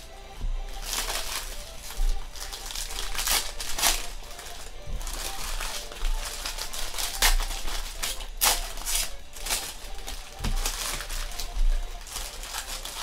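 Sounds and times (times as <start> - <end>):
foil wrappers crinkling and tearing: 0.0 - 13.0.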